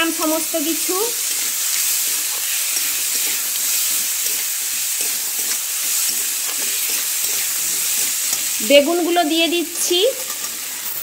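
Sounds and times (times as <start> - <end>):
potatoes sizzling in hot oil: 0.0 - 11.0
spatula scraping pan: 0.8 - 11.0.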